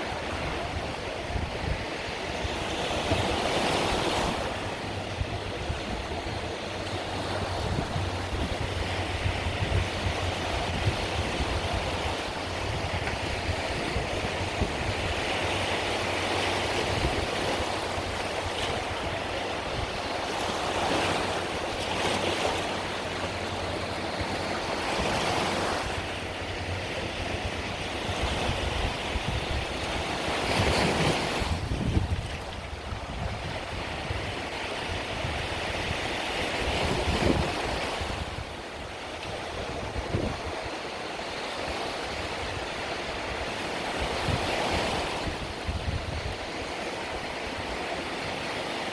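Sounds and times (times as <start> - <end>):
wind buffeting microphone: 0.0 - 48.6
waves breaking on shore: 0.0 - 48.9.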